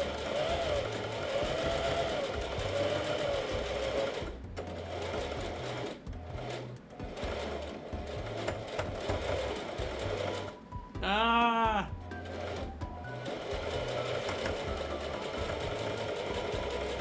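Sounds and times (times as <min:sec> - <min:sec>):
sewing machine stitching: 0:00.0 - 0:10.7, 0:12.0 - 0:17.0.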